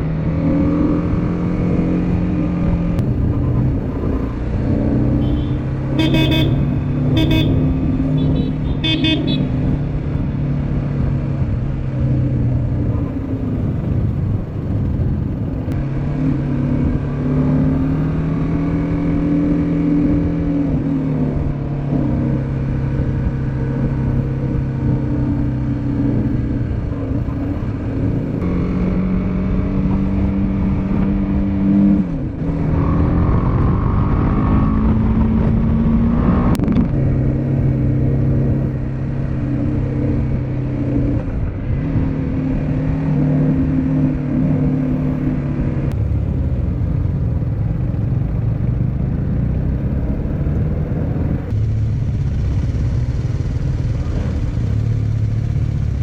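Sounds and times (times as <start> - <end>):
motorcycle engine running: 0.0 - 31.5, 32.1 - 56.0.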